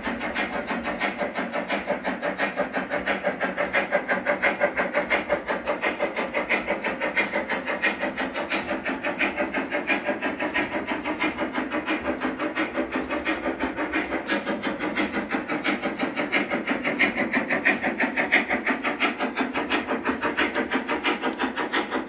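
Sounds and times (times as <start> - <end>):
model train motor running: 0.0 - 22.0
train wheels beating on track: 0.0 - 22.0.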